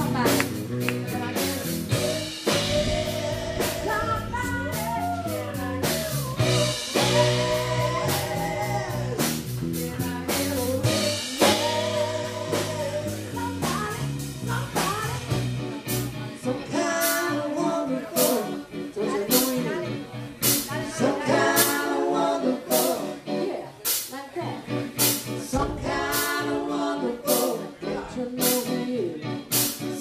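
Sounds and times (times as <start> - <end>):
rock band playing: 0.0 - 22.0, 22.7 - 30.0
woman singing: 0.0 - 24.8, 25.4 - 29.3.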